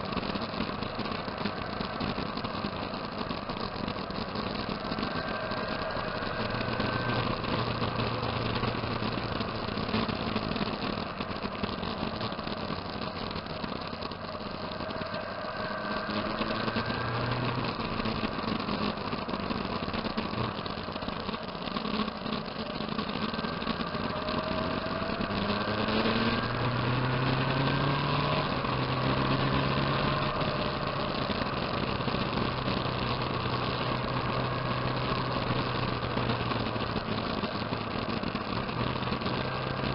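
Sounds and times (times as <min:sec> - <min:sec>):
low engine hum: 0:00.0 - 0:39.9
motorcycle engines revving: 0:00.0 - 0:39.9.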